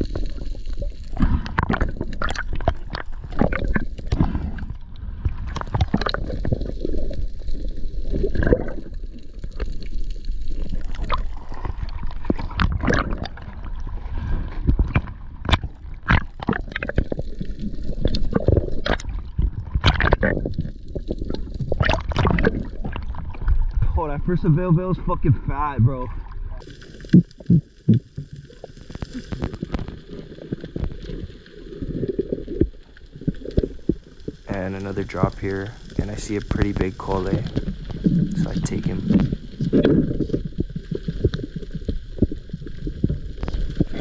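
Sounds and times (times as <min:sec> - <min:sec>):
water gurgling underwater: 0:00.0 - 0:44.0.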